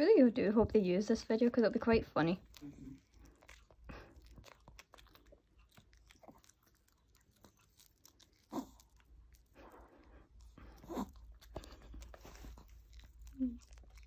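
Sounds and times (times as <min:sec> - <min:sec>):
dog chewing and licking: 0:01.8 - 0:14.0.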